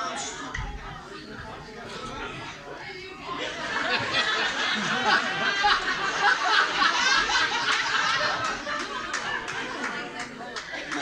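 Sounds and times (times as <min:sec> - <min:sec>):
audience laughing and chattering: 0:00.0 - 0:11.0.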